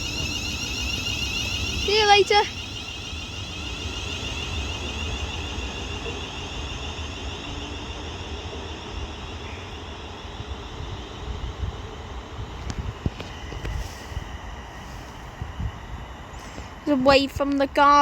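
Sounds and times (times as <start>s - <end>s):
electric train motor whine: 0.0s - 18.0s
train running noise: 0.0s - 18.0s.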